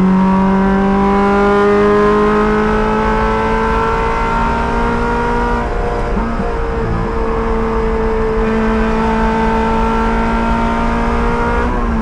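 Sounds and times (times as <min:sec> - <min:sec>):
race car engine under load: 0:00.0 - 0:12.0.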